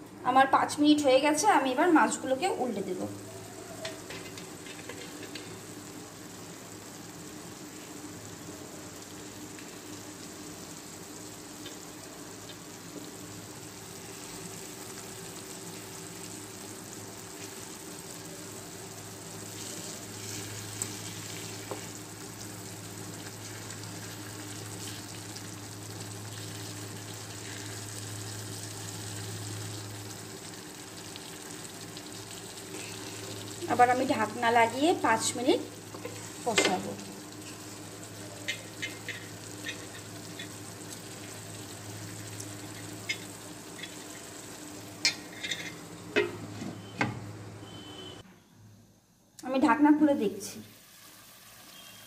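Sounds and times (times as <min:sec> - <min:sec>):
fish sizzling in wok: 0:00.8 - 0:48.2, 0:49.6 - 0:52.0.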